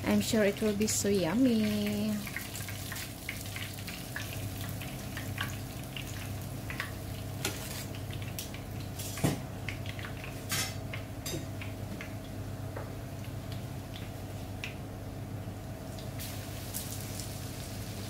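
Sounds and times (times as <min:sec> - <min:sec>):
oil sizzling in a frying pan: 0:00.0 - 0:18.0.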